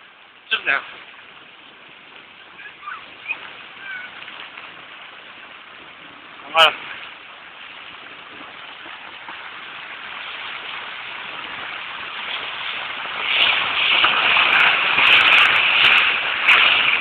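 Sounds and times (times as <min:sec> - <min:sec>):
floodwater rushing and splashing: 0:00.0 - 0:17.0.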